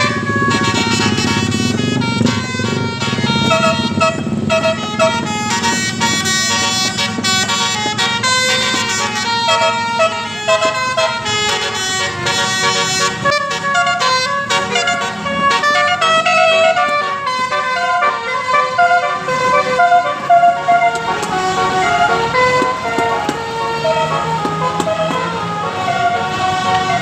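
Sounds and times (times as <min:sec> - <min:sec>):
bus engine rumbling: 0:00.0 - 0:27.0
bus horn playing a tune: 0:00.0 - 0:27.0.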